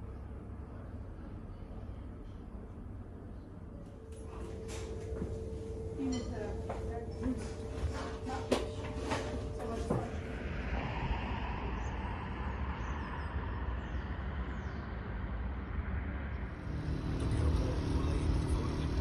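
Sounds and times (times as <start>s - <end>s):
low even hum: 0.0s - 19.0s
vehicle rumble: 0.0s - 19.0s.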